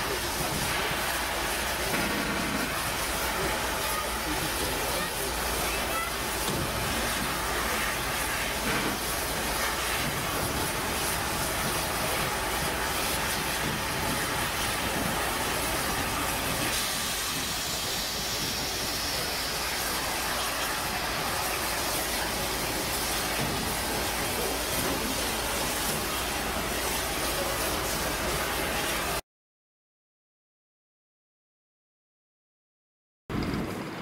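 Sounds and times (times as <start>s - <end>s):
steam locomotive hissing: 0.0s - 29.2s.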